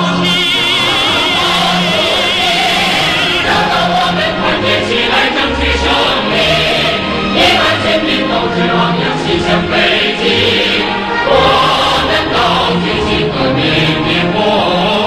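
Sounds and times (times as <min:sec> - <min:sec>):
choir singing: 0:00.0 - 0:15.0
orchestral accompaniment: 0:00.0 - 0:15.0.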